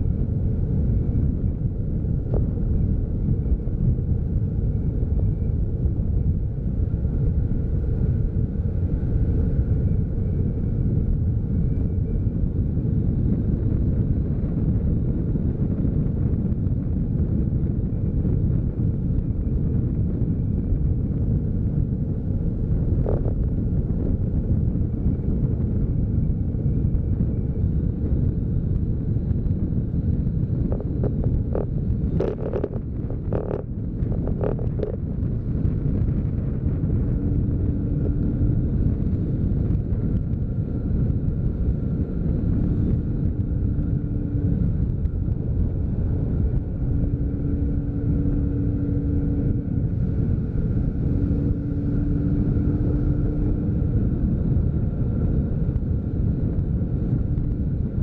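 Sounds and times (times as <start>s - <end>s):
road noise: 0.0s - 58.0s
vehicle engine: 0.0s - 58.0s
wind rumbling over microphone: 0.0s - 58.0s.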